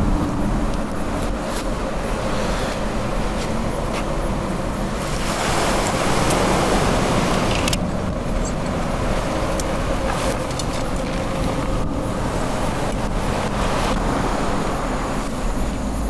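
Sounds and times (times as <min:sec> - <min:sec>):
surf rushing: 0:00.0 - 0:16.0
wind: 0:00.0 - 0:16.0.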